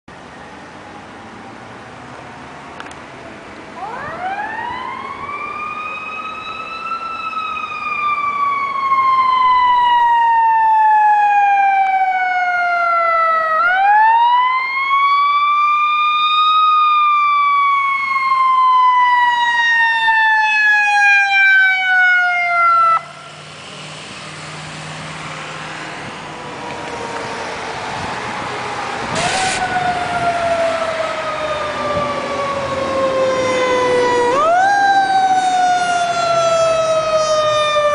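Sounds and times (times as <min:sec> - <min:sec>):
road noise: 0:00.1 - 0:37.9
emergency siren wailing: 0:03.6 - 0:37.9.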